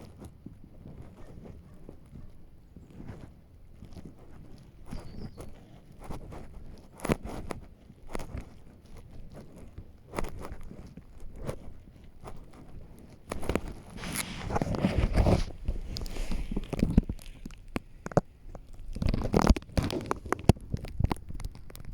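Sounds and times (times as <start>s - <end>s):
footsteps on forest path: 0.2s - 20.2s.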